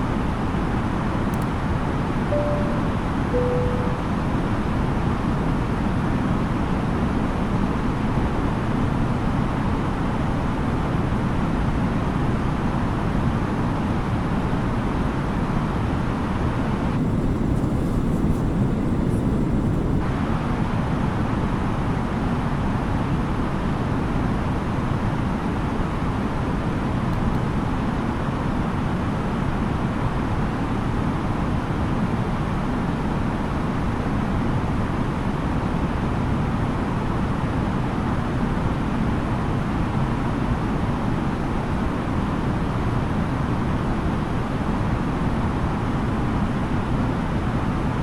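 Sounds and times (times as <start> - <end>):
airliner cabin airflow and engine noise: 0.0 - 4.2, 7.5 - 48.0.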